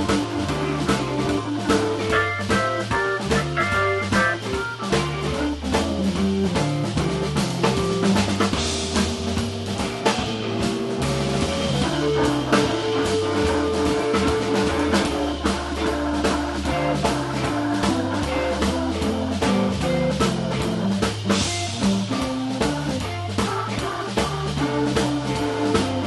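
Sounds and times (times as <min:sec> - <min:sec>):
electric guitar: 0:00.0 - 0:26.0
jazz organ trio playing: 0:00.0 - 0:26.0
organ bass line: 0:00.0 - 0:26.0
snare rimshots and cymbals: 0:00.0 - 0:26.0.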